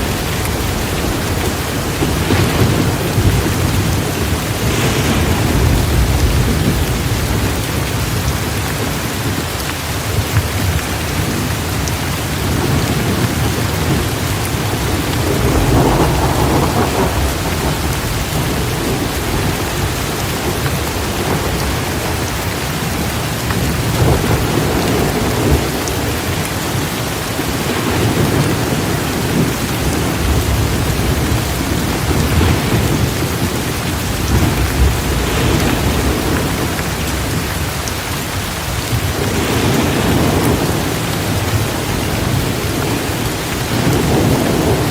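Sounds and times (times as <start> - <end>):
thunder rumbling: 0.0 - 44.9
torrential rain pouring: 0.0 - 44.9.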